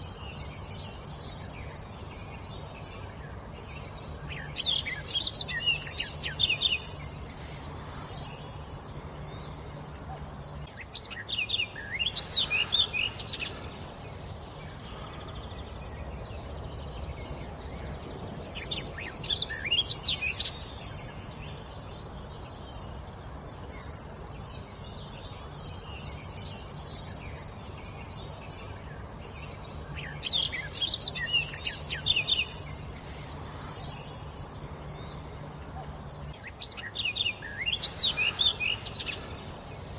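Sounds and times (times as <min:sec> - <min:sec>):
low background hum: 0:00.0 - 0:39.9
songbird chirping: 0:00.0 - 0:39.9.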